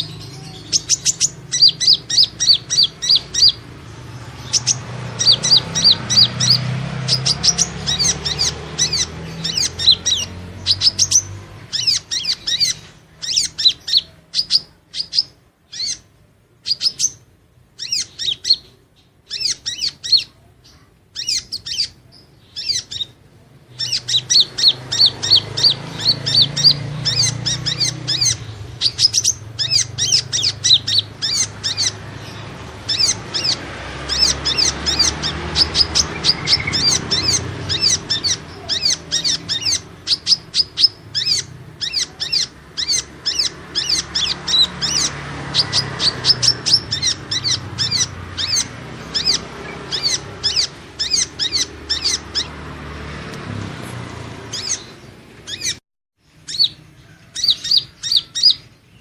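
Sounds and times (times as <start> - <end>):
bird chirping high and sharp: 0.0 - 52.7, 54.2 - 59.0.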